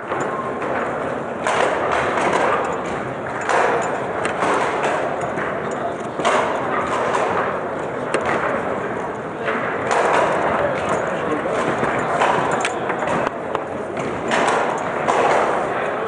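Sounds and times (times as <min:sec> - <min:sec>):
foosball ball and rods knocking: 0:00.0 - 0:15.7
murmur of voices: 0:00.0 - 0:16.0.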